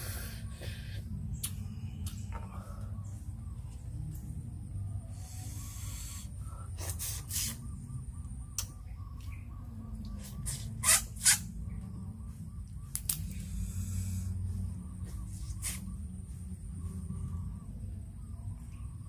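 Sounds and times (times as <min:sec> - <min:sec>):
faint rapid chirping: 0:00.0 - 0:19.0.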